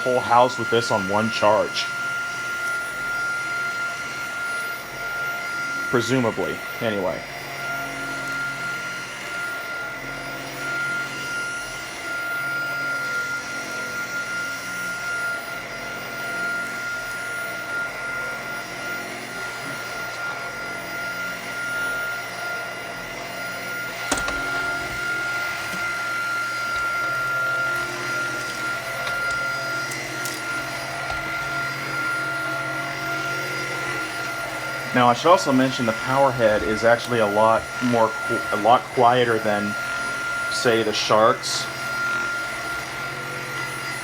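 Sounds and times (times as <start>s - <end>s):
vacuum cleaner whining on carpet: 0.0s - 44.0s.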